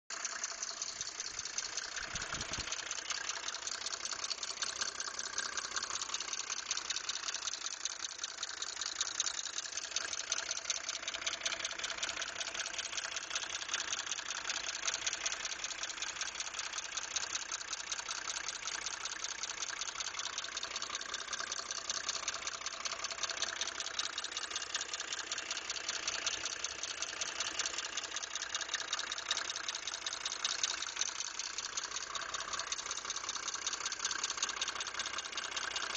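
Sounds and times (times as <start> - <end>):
diesel engine idling with clatter: 0.1 - 35.9.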